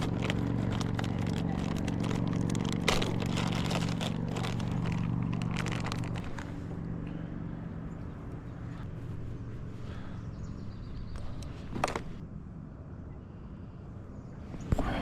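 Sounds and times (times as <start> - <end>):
engine running: 0.0 - 12.8.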